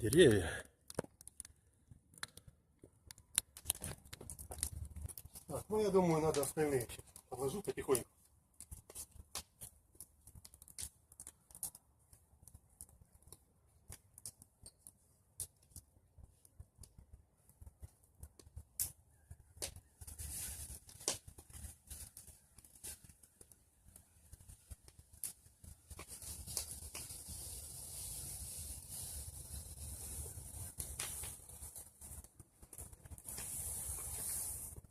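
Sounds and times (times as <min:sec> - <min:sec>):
bonfire crackling and popping: 0:00.0 - 0:34.9.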